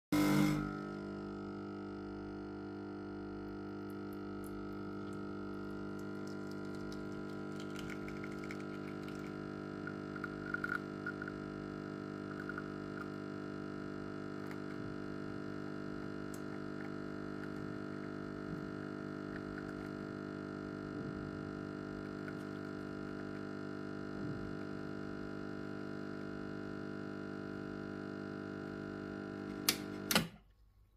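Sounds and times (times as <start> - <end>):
espresso machine pump humming: 0.1 - 30.1.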